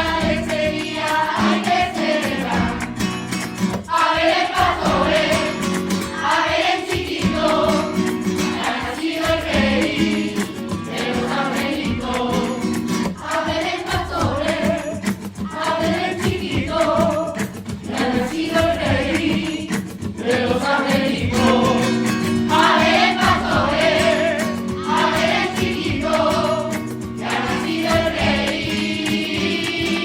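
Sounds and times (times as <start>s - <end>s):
choir singing a carol: 0.0s - 3.0s, 3.8s - 30.0s
instrumental accompaniment: 0.0s - 30.0s.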